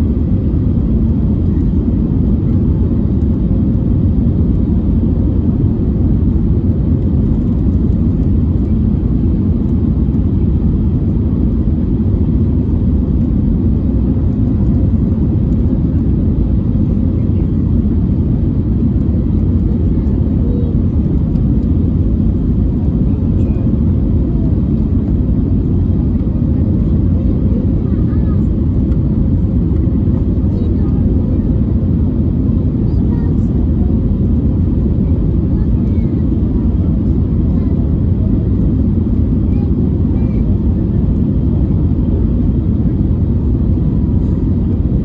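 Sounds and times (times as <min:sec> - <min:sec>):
jet engine hum: 0:00.0 - 0:45.0.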